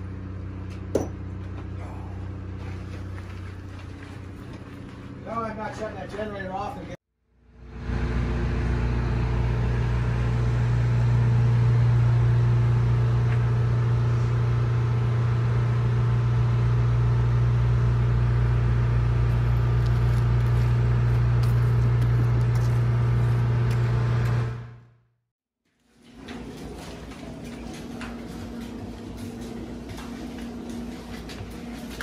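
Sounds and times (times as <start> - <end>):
low mechanical hum: 0.0 - 25.0, 25.7 - 32.0.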